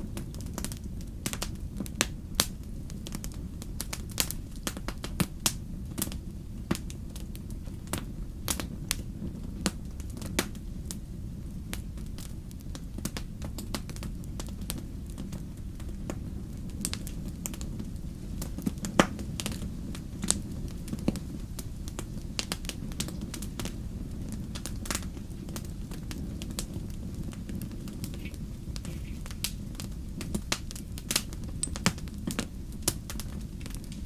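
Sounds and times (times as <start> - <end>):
fire crackling and popping: 0.0 - 34.0
low rumble of flames: 0.0 - 34.0.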